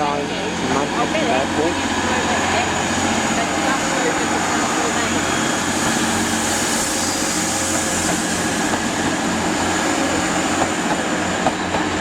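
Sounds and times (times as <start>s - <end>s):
train diesel engines running: 0.0s - 12.0s.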